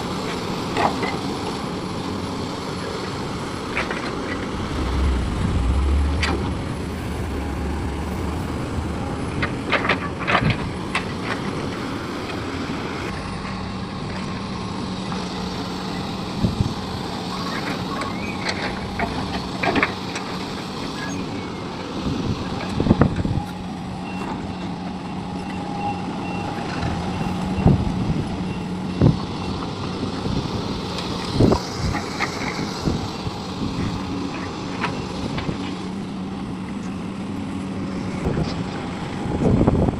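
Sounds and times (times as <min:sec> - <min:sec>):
diesel machinery engines: 0:00.0 - 0:39.9.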